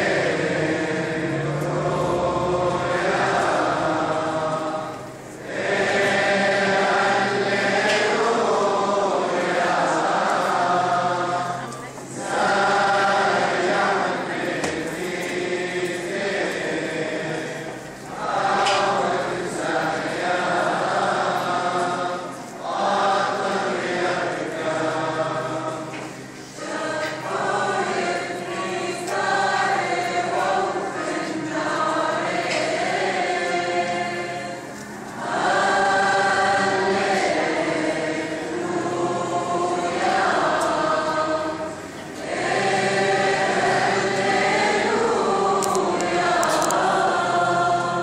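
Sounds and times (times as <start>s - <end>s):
choir singing a hymn: 0.0s - 48.0s.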